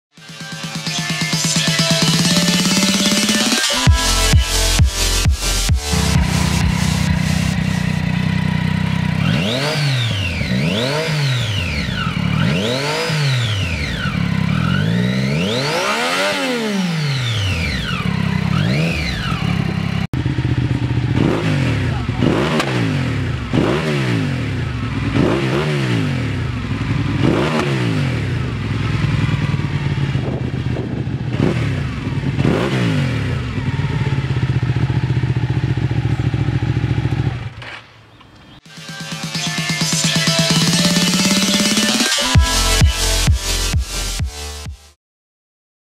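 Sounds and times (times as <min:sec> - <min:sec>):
motorcycle engine revving: 0:00.3 - 0:44.9
v-twin motorcycle revving: 0:01.6 - 0:38.6.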